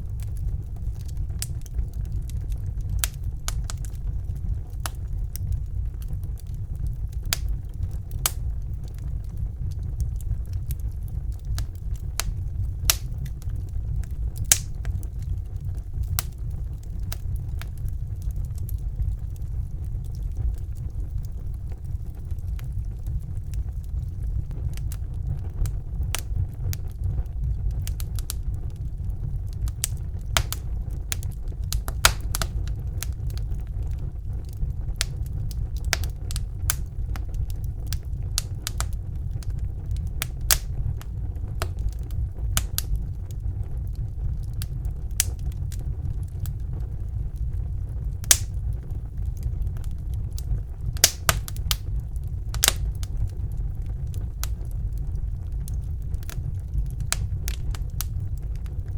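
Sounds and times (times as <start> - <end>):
logs crackling and popping: 0.0 - 58.9
wood fire rumbling: 0.0 - 58.9.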